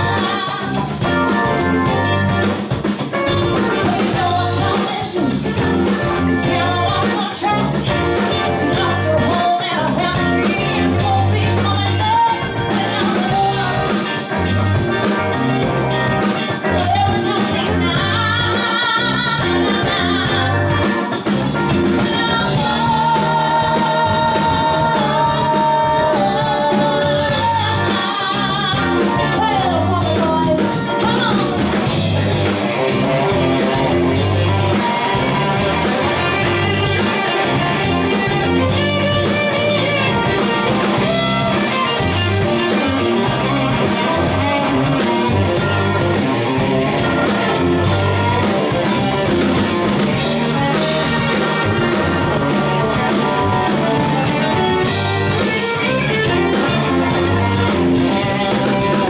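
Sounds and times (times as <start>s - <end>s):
bass guitar: 0.0s - 59.0s
drums with a steady beat: 0.0s - 59.0s
electric guitars: 0.0s - 59.0s
keyboards: 0.0s - 59.0s
woman singing lead: 0.0s - 59.0s.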